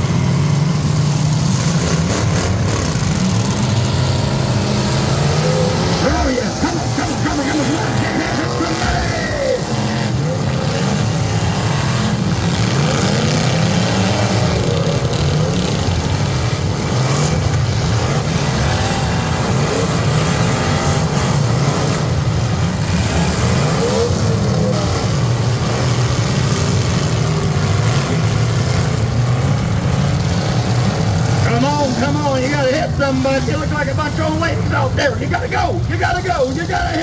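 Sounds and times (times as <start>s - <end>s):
stock car engines revving: 0.0s - 37.0s.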